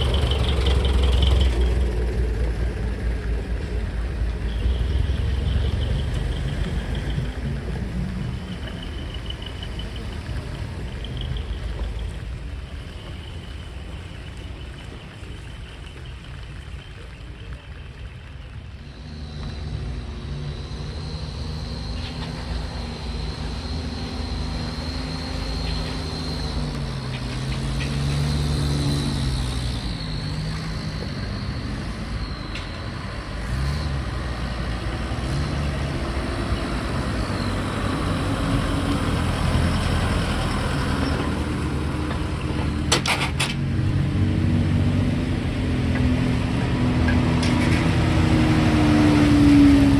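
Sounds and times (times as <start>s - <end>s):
truck diesel engines revving: 0.0s - 49.9s.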